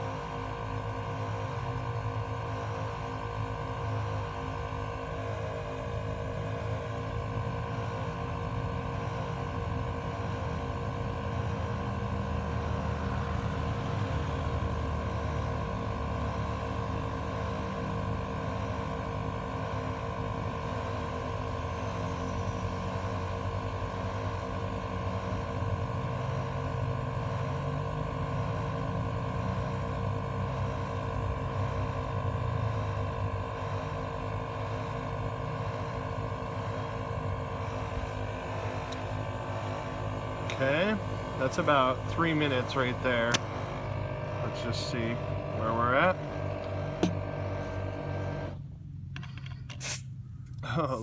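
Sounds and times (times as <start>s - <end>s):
air compressor humming: 0.0s - 51.0s.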